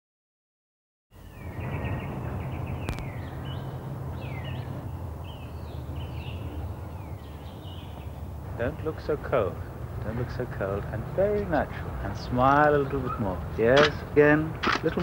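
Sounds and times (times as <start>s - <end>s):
birds chirping: 1.1s - 15.0s.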